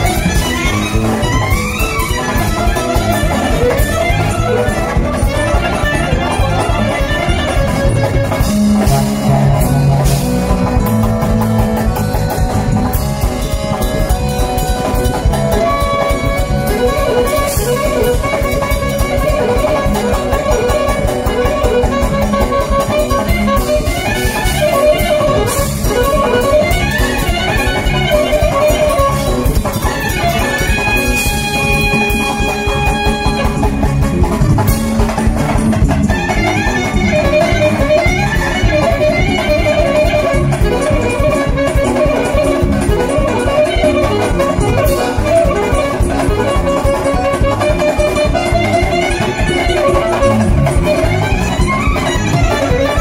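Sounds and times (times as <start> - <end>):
clarinet: 0.0 - 53.0
drum kit beat: 0.0 - 53.0
keyboard: 0.0 - 53.0
saxophone: 0.0 - 53.0.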